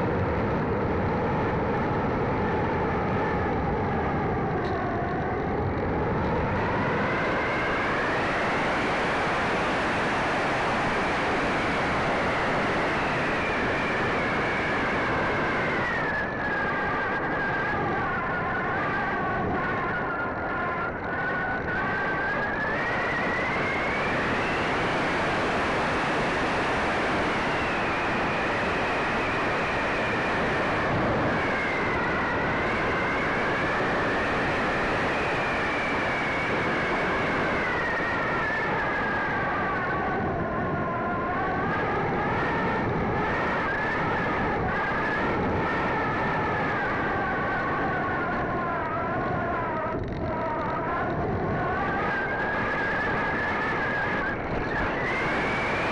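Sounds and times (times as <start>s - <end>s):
electric motor and propeller whine: 0.0s - 55.9s.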